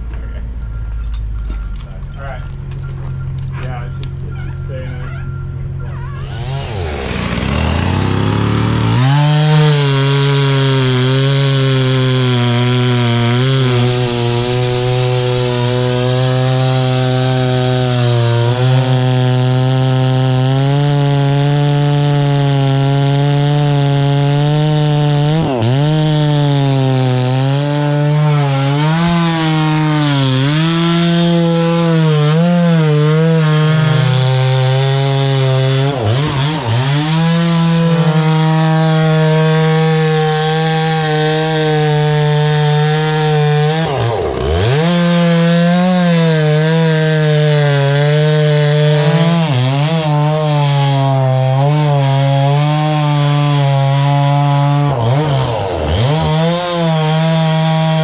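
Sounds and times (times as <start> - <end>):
chainsaw cutting tree trunk: 6.2 - 58.0.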